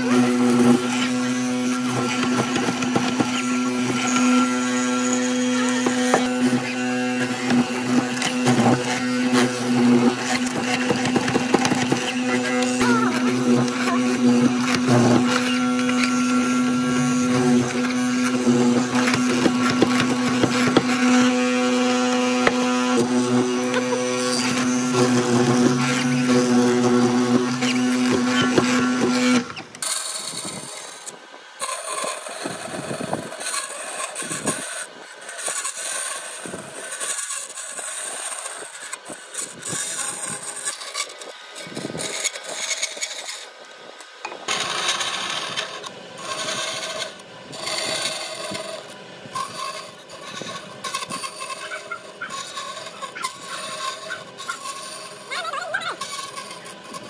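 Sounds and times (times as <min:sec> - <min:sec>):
grinding noise: 0:00.0 - 0:57.0
machine humming: 0:00.0 - 0:57.0
tools scraping wood: 0:00.0 - 0:57.0.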